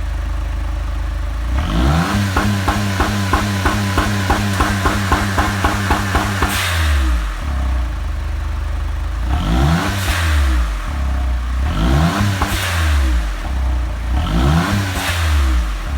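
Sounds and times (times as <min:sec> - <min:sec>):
car engine revving: 0:01.4 - 0:15.9.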